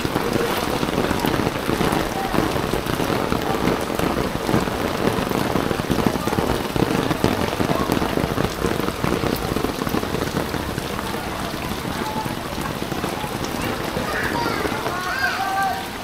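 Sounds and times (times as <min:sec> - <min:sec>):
steady rain patter: 0:00.0 - 0:16.0.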